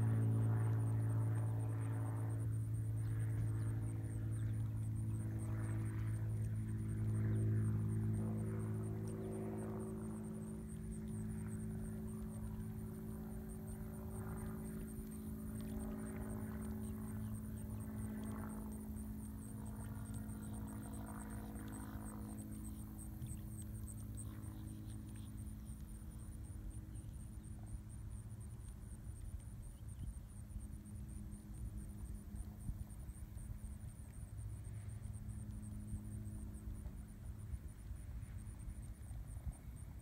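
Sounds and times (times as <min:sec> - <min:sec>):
low motor hum: 0:00.0 - 0:40.0.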